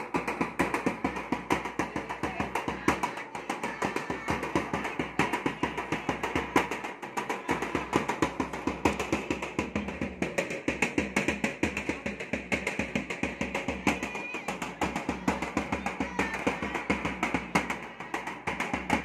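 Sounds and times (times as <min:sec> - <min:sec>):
barrel drum beaten with stick: 0:00.0 - 0:19.0.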